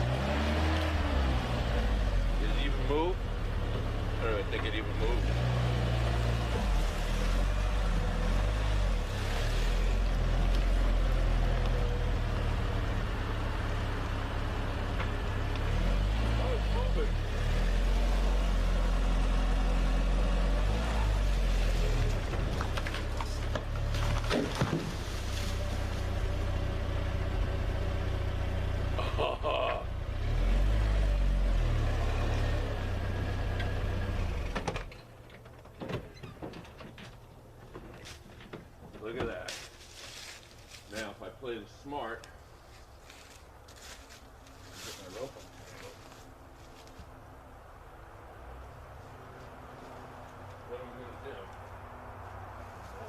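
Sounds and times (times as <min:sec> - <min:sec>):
pickup engine low rumble: 0:00.0 - 0:53.0.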